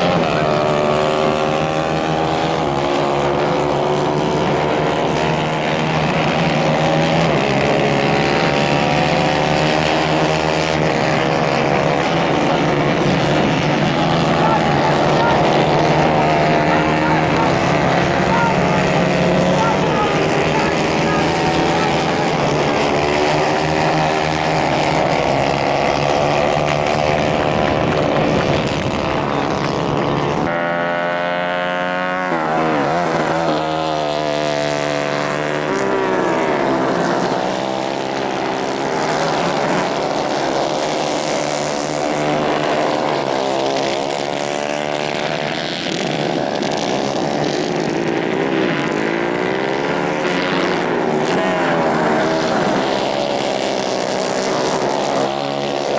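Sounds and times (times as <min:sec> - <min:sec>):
racing kart engines revving: 0:00.0 - 0:55.9.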